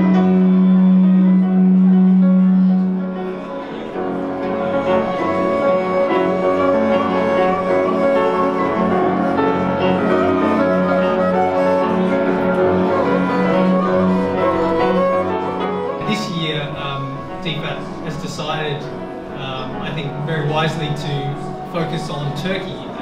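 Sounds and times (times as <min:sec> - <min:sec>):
bowed strings melody: 0:00.0 - 0:23.0.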